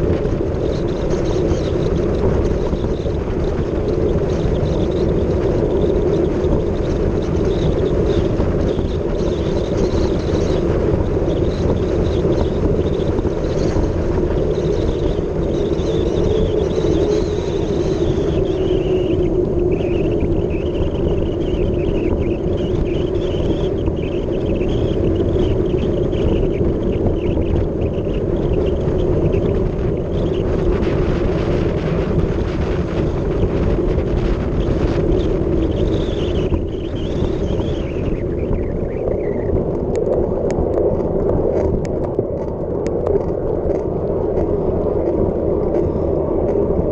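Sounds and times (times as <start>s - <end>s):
bike tyre roar: 0.0s - 46.9s
wavering high whine: 0.0s - 46.9s
wind rushing over microphone: 0.0s - 46.9s.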